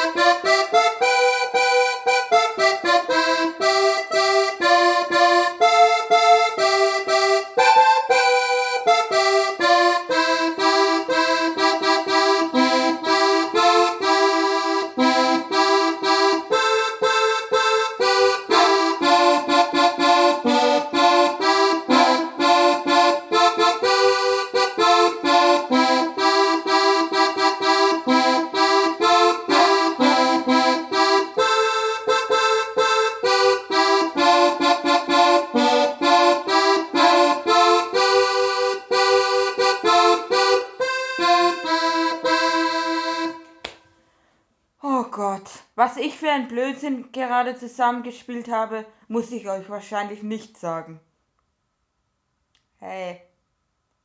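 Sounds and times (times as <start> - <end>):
electronic keyboard melody: 0.0 - 43.6.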